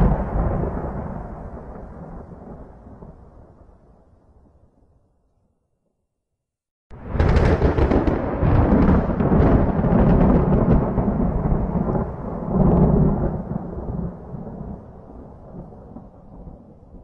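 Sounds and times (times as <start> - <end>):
thunder rumbling: 0.0 - 4.6, 6.9 - 17.0.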